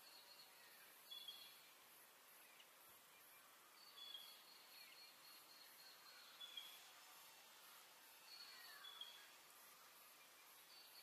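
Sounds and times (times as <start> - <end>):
faint high pulsing hiss: 0.0 - 11.0.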